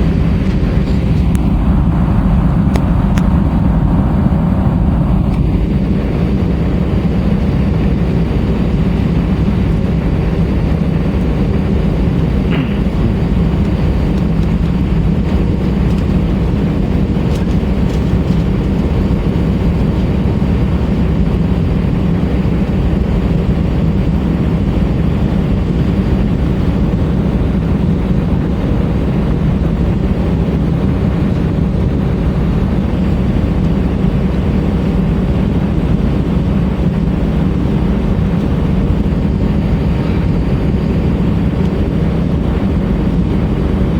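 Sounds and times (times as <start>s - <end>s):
aircraft cabin engine drone: 0.0s - 43.9s.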